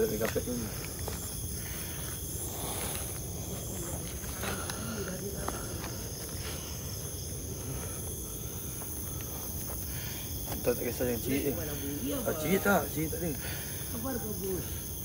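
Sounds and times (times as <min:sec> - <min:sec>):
faint voices: 0:00.0 - 0:15.0
insects chirring: 0:00.0 - 0:15.0.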